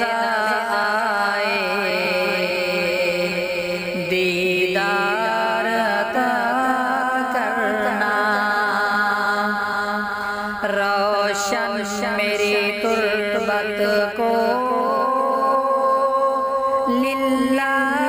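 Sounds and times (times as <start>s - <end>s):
person singing devotional song: 0.0s - 18.0s.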